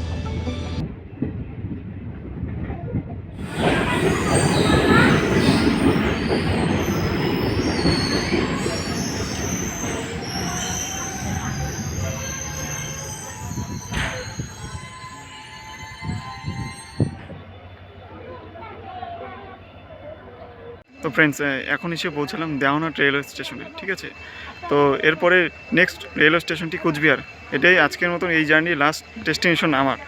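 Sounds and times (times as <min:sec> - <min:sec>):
train running on rails: 0:00.0 - 0:30.0
train wheels squealing: 0:03.4 - 0:30.0.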